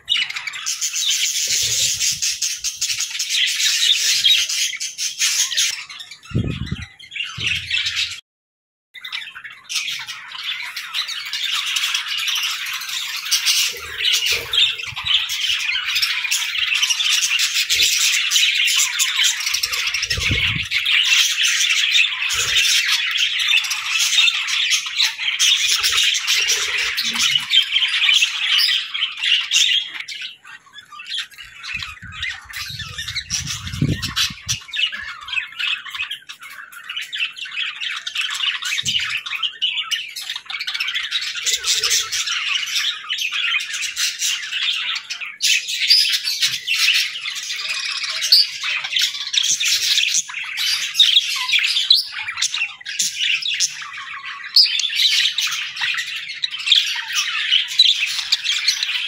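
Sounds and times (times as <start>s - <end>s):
budgerigars chattering: 0.0s - 8.2s, 9.0s - 59.0s.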